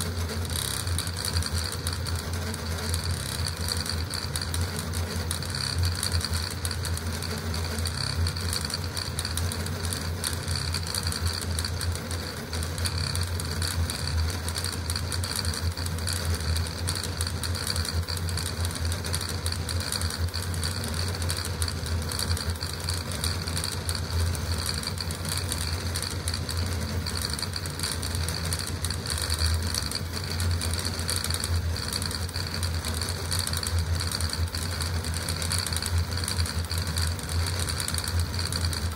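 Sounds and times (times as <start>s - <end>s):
printer motors rattling buzz: 0.0s - 38.9s
steady hum: 0.0s - 38.9s.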